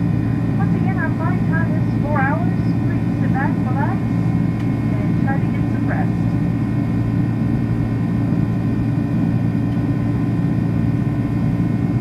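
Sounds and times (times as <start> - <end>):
deep drone of jet engines: 0.0 - 12.0
faint steady whines: 0.0 - 12.0.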